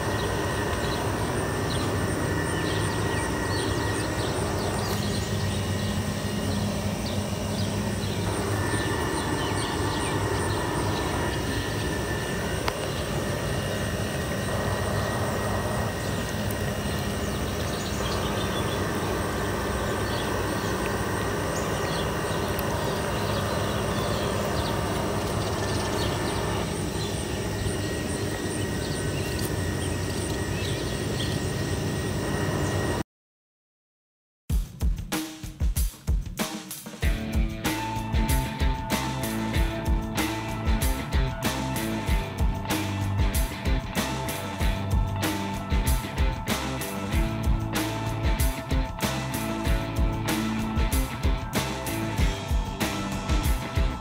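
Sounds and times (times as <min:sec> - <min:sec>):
low engine drone: 0:00.0 - 0:33.0, 0:37.0 - 0:54.0.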